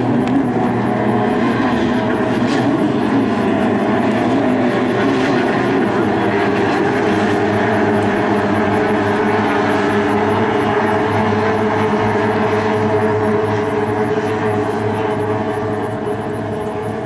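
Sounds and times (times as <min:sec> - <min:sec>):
racing boat engines droning: 0:00.0 - 0:17.0.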